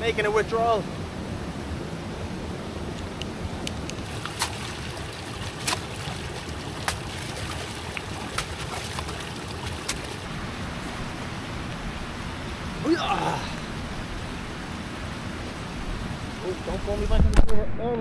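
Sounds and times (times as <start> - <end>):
water rushing: 0.0 - 17.4.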